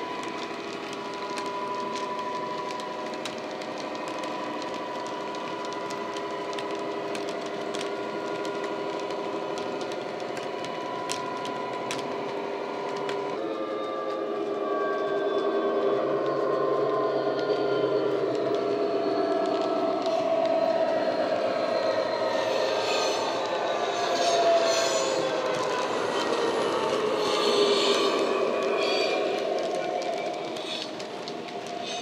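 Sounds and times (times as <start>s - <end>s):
model locomotive engine drone: 0.0s - 32.0s.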